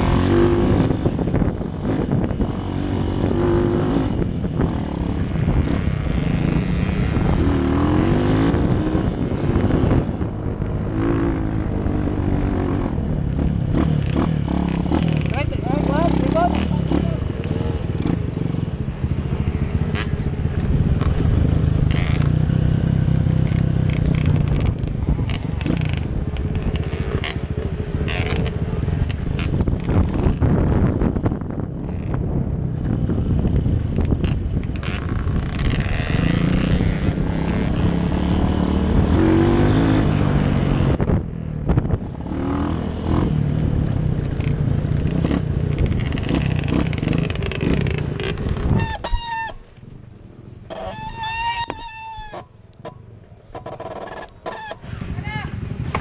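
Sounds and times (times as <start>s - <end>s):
dirt bike engine revving: 0.0s - 31.3s, 31.9s - 49.5s.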